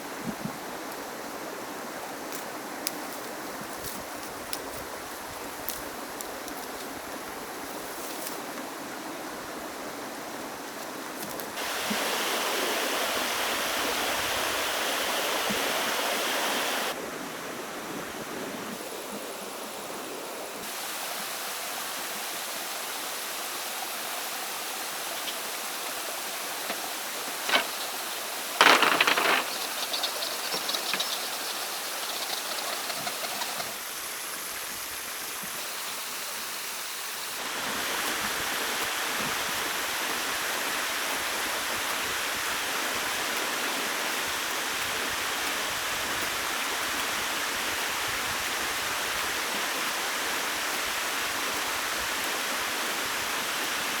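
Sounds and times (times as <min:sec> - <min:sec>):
rushing flowing water: 0:08.4 - 0:54.0.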